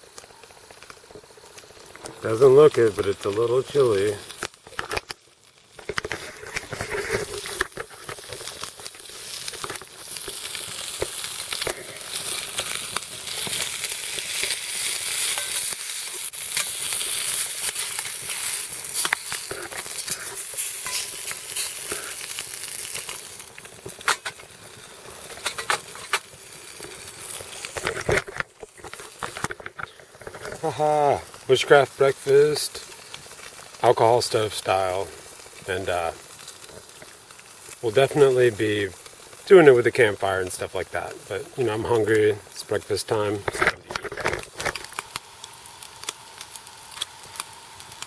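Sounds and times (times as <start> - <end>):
meat sizzling in a pot: 0.0 - 48.0.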